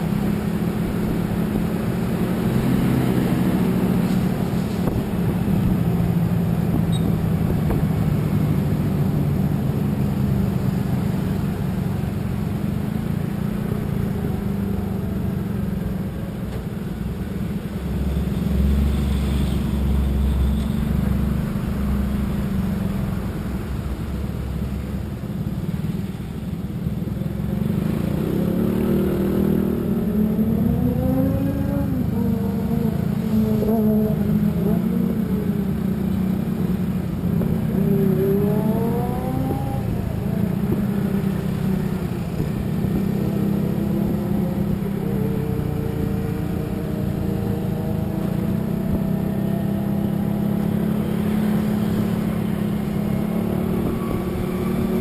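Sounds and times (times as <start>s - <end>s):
road noise: 0.0s - 55.0s
vehicle engine: 0.0s - 55.0s.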